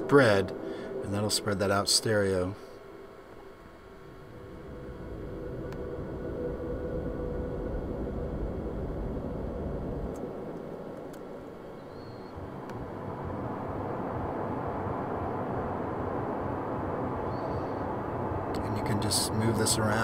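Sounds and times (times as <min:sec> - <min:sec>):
dense noisy ambient pad: 0:00.0 - 0:20.0.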